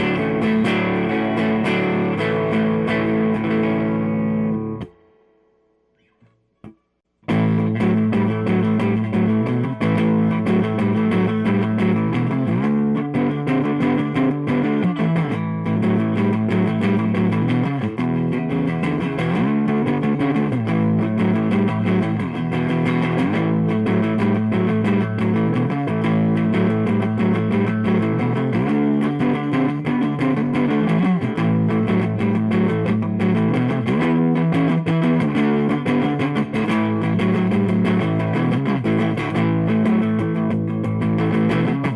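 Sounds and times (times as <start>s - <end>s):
electric guitar notes and chords: 0.0s - 41.9s.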